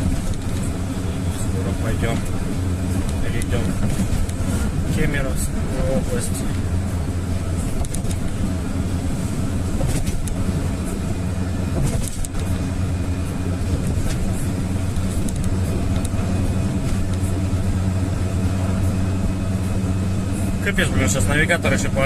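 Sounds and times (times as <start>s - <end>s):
road noise: 0.0s - 22.0s
van engine drone: 0.0s - 22.0s.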